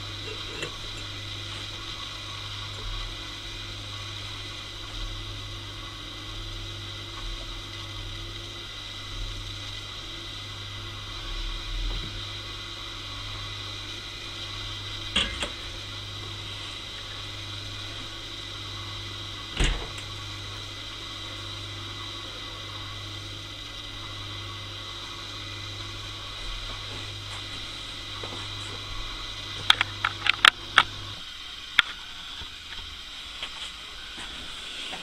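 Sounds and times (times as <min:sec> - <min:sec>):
electrical motor hum: 0:00.0 - 0:35.0.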